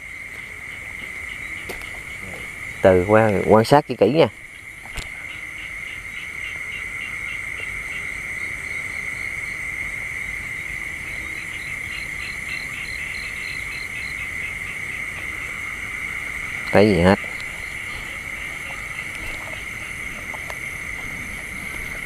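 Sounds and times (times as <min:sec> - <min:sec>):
cricket chirping: 0:00.0 - 0:22.0
crickets trilling: 0:00.0 - 0:22.0.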